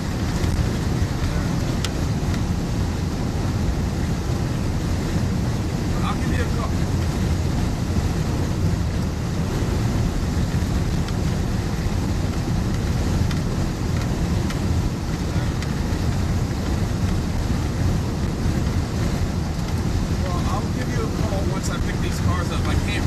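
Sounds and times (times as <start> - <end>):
road noise: 0.0 - 23.0
truck engine rumble: 0.0 - 23.0
wind buffeting microphone: 0.0 - 23.0.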